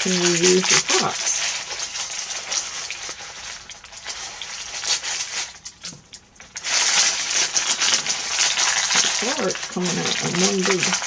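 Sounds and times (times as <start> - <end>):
paper crinkling and crackling: 0.0 - 11.0.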